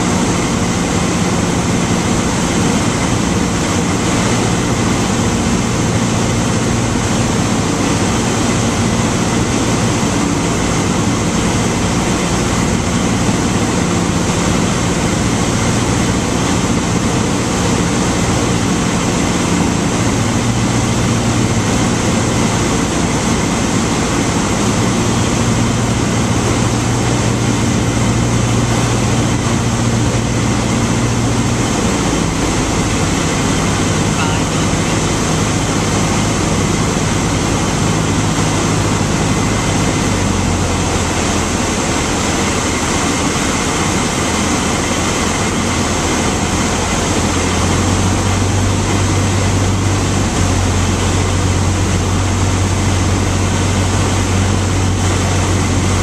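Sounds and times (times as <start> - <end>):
airflow rush: 0.0 - 56.0
propeller plane engine: 0.0 - 56.0.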